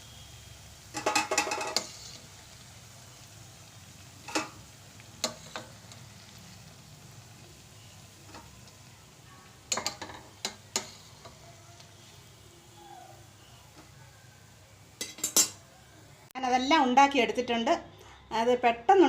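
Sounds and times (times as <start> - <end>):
deep-frying sizzle in oil: 0.0 - 17.8.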